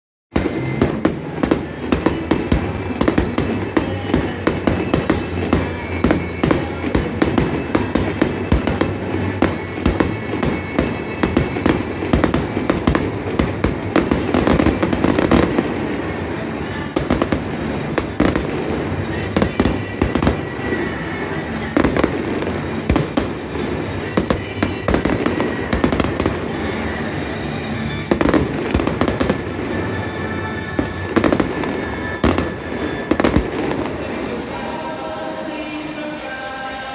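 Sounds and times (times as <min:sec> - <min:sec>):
fireworks popping and crackling: 0:00.3 - 0:34.2.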